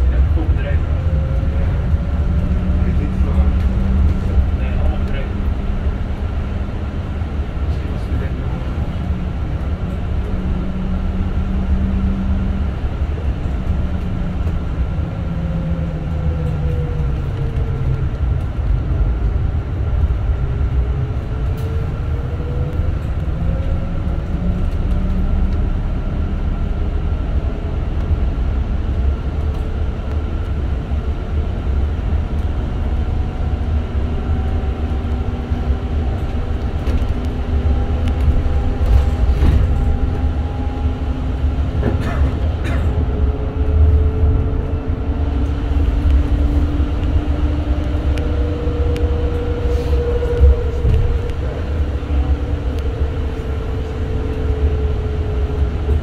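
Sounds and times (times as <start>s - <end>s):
bus road rumble: 0.0s - 56.0s.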